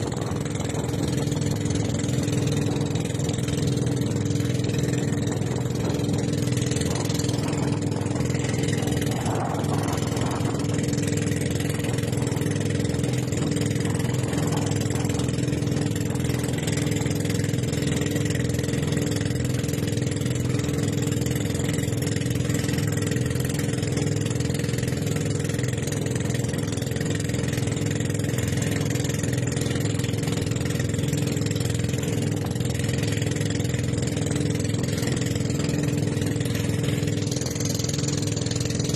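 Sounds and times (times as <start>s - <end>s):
boat engine humming: 0.0s - 38.9s
hiss of water and wind: 0.0s - 38.9s.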